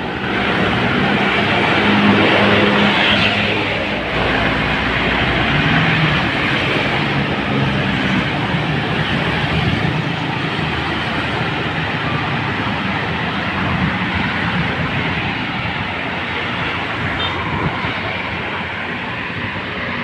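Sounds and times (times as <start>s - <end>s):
road noise: 0.0s - 20.0s
vehicle engine: 0.0s - 20.0s.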